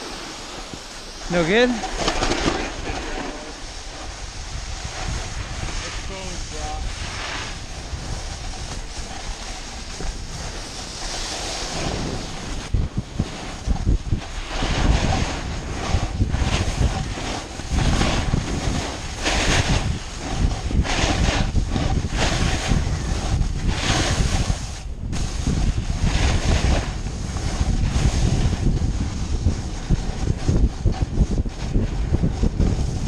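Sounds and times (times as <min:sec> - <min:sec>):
snowboard carving across snow: 0:00.0 - 0:33.0
wind buffeting microphone: 0:00.0 - 0:33.0.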